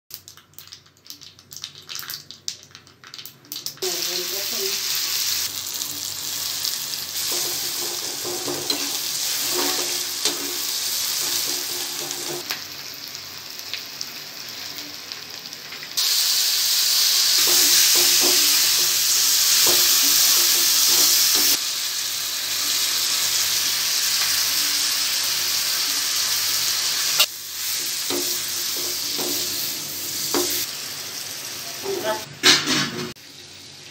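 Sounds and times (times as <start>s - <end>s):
hot oil sizzling: 0.1s - 33.9s.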